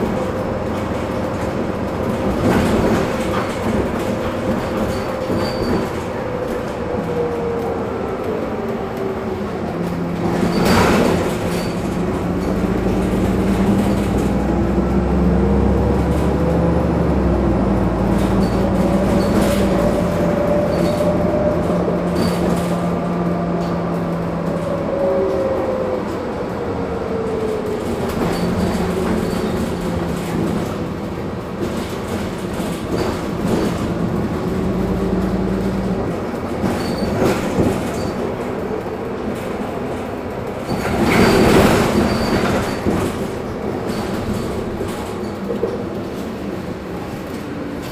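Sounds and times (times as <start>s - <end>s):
bus body rattles: 0.0s - 7.5s, 9.2s - 24.8s, 27.2s - 47.9s
bus engine whine: 0.0s - 47.9s.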